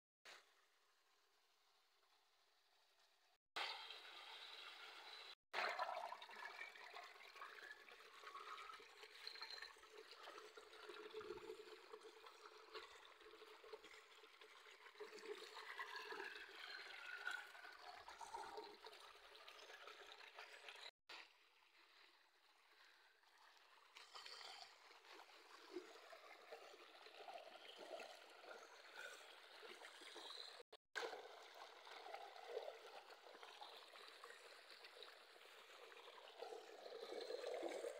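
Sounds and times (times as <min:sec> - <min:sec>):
faint running water: 0:03.6 - 0:37.9.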